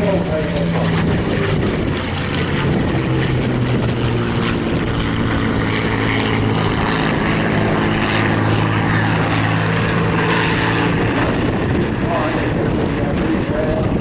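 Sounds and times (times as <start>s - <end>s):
propeller aircraft engine drone: 0.0s - 14.0s
wind noise on microphone: 0.0s - 14.0s.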